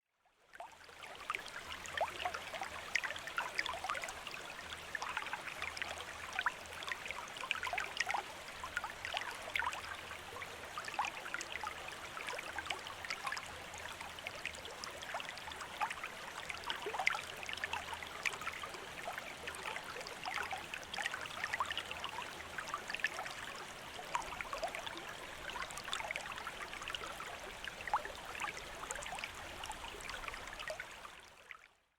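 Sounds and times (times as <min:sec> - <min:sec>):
stream trickling and gurgling: 0:00.2 - 0:31.9.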